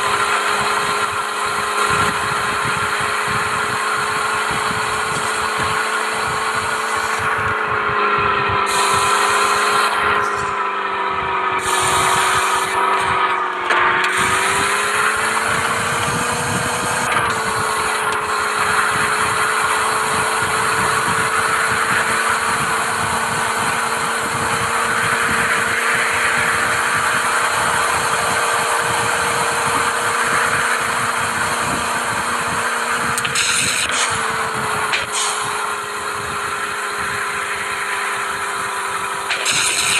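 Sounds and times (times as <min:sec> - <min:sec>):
mechanical whine: 0:00.0 - 0:39.9.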